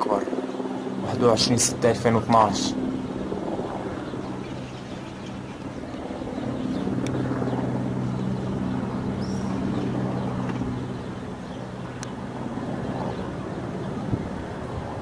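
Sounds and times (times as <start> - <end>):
helicopter rotor blades chopping: 0.0 - 15.0
helicopter turbines droning: 0.0 - 15.0.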